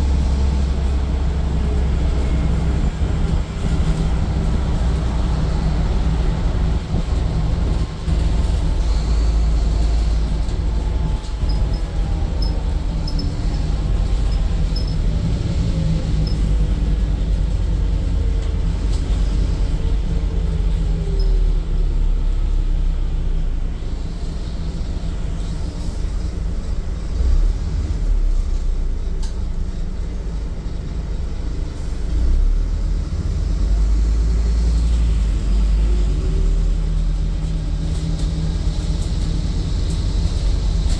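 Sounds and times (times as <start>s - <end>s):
bus engine rumble: 0.0s - 40.9s.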